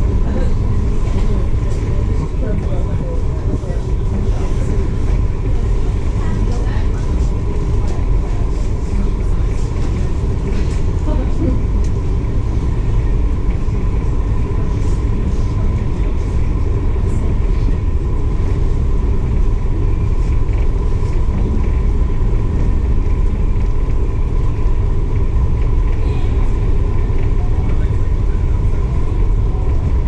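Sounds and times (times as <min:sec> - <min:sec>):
constant hum: 0:00.0 - 0:30.0
faint voices: 0:00.0 - 0:30.0
ferry engine rumble: 0:00.0 - 0:30.0.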